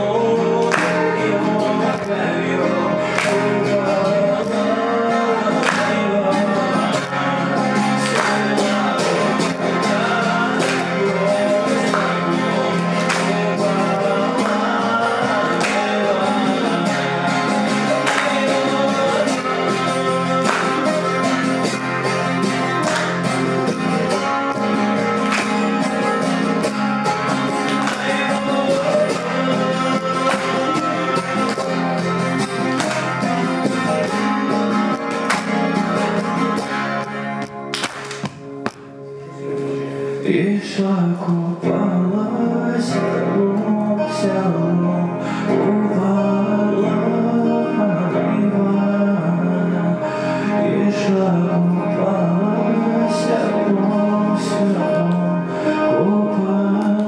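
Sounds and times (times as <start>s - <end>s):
acoustic guitar strumming: 0.0s - 57.0s
person singing a folk song: 0.0s - 57.0s.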